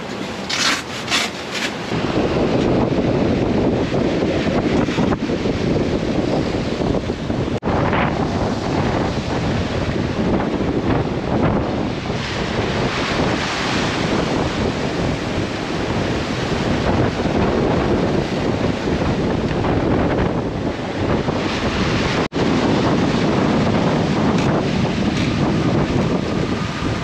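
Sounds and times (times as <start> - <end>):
waves breaking: 0.0 - 27.0
wind buffeting microphone: 1.8 - 27.0.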